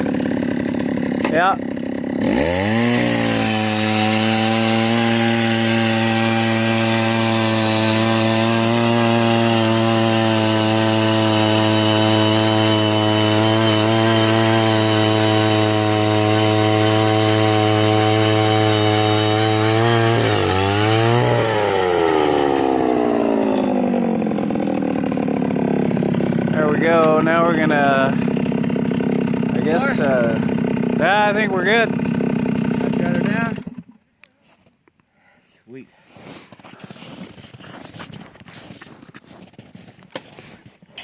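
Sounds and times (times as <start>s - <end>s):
ice auger engine revving: 0.0s - 34.0s.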